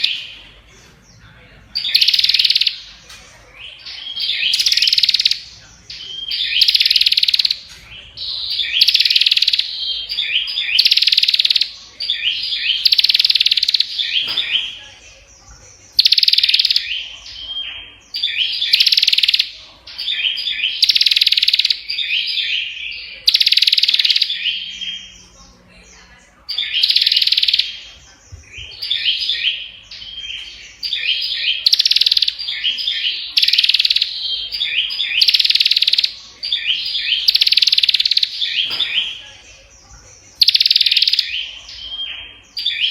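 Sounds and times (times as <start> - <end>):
bird chirping: 0.0 - 42.9.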